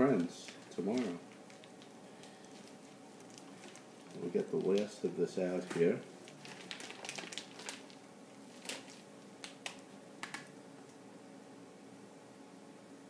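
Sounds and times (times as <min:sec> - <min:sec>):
plastic piping bag crinkling: 0:00.0 - 0:10.6.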